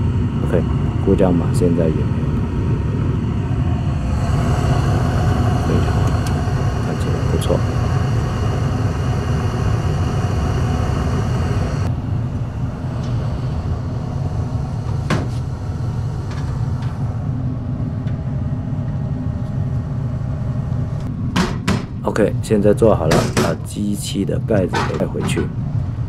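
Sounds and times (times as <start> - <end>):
faint high whine: 0.0 - 21.2
furnace low rumble: 0.0 - 26.0.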